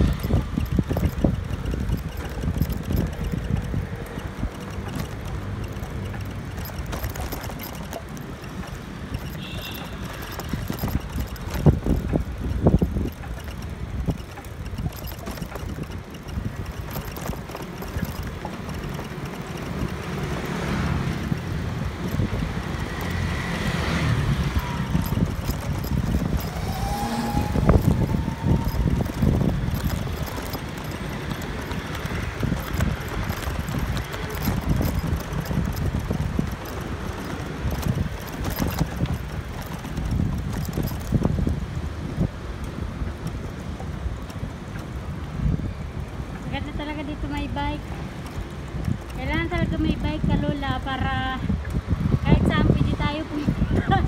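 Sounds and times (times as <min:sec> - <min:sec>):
city street traffic: 0:00.0 - 0:54.0
motor scooters and cars passing: 0:00.0 - 0:54.0
wind buffeting microphone: 0:00.0 - 0:54.0.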